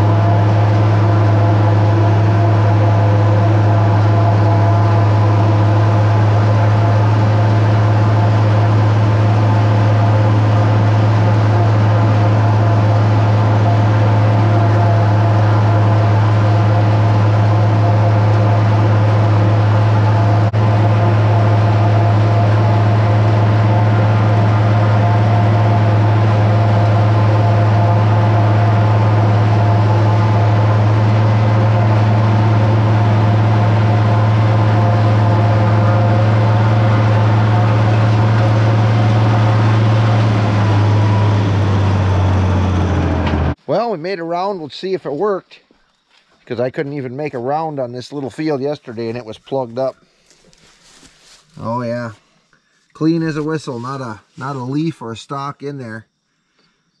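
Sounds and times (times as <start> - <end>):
tractor and harvester droning: 0.0 - 57.0.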